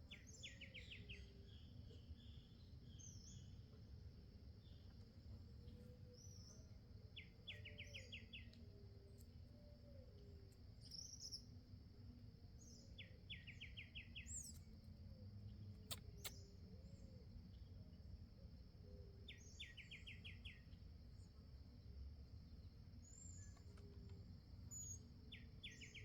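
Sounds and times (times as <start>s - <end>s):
faint bird chirps: 0.0s - 3.8s, 4.6s - 11.7s, 12.6s - 21.7s, 22.4s - 26.0s.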